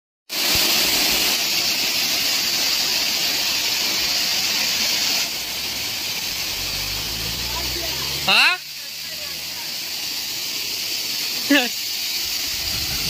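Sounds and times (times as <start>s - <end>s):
waterfall rushing: 0.3s - 13.0s.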